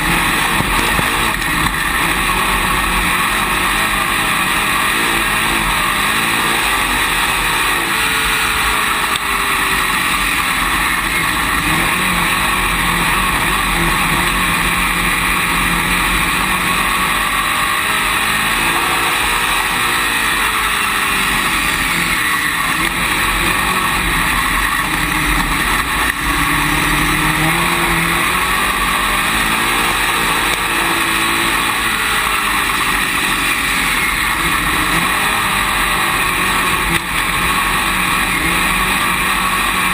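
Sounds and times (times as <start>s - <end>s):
loud steady rushing noise: 0.0s - 39.9s
race car engine revving: 0.0s - 39.9s.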